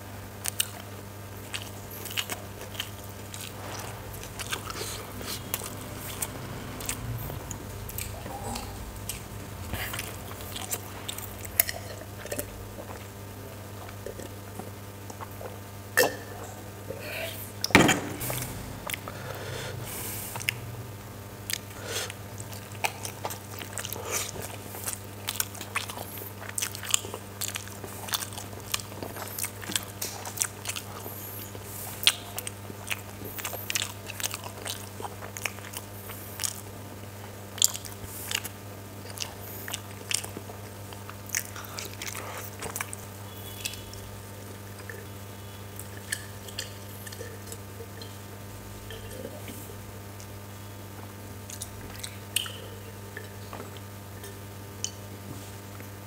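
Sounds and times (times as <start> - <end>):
steady low hum: 0.0 - 56.0
close chewing and mouth clicks: 0.4 - 15.6, 21.5 - 45.1, 45.7 - 48.2, 48.8 - 56.0.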